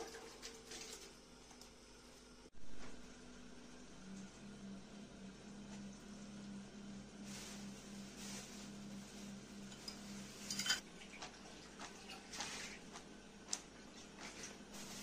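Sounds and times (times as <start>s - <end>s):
steady low hum: 1.2s - 15.0s.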